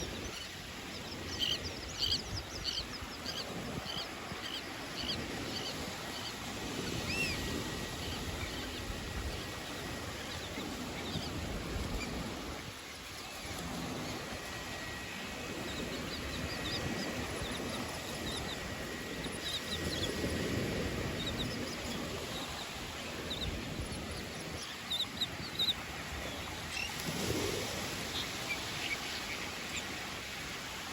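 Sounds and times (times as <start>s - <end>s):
birds chirping: 0.0s - 27.0s
wind: 0.0s - 30.9s.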